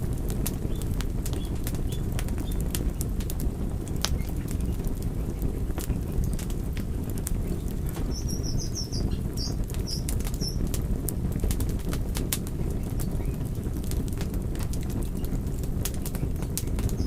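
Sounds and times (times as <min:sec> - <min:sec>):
fire crackling and popping: 0:00.0 - 0:17.0
wood fire roaring: 0:00.0 - 0:17.0.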